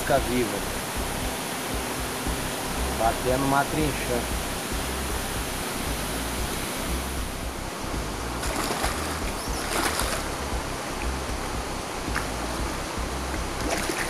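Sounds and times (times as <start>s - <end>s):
steady rushing hiss: 0.0s - 14.0s
water splashing: 0.0s - 14.0s.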